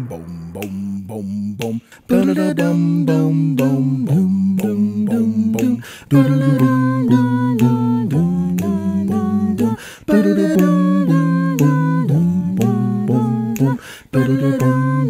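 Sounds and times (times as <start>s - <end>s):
voices singing a cappella harmony: 0.0s - 15.0s.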